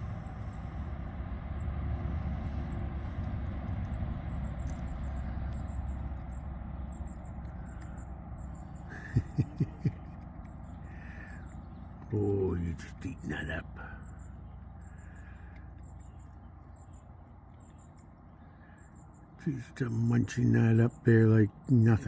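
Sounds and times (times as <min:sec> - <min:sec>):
steady low rumble: 0:00.0 - 0:22.0
small birds chirping: 0:02.6 - 0:22.0.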